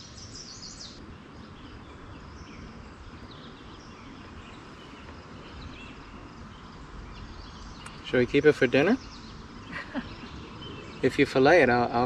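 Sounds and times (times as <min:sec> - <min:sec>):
birds chirping: 0:00.0 - 0:12.0
low outdoor rumble: 0:00.0 - 0:12.0.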